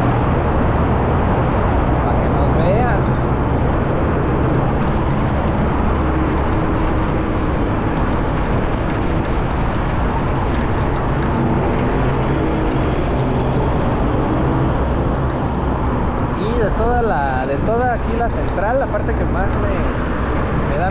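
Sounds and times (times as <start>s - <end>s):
passing road traffic: 0.0s - 20.9s
wind rush over microphone: 0.0s - 20.9s.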